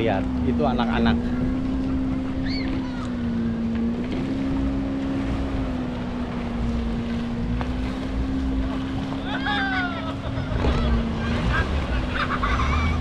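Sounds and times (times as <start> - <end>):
motorboat engine humming: 0.0 - 13.0
water noise: 0.0 - 13.0
wind: 0.0 - 13.0.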